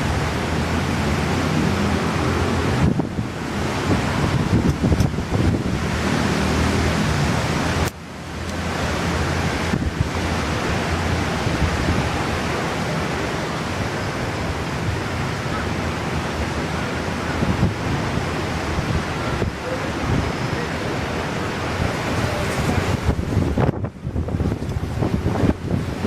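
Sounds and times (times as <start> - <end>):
wind rushing across microphone: 0.0 - 26.0.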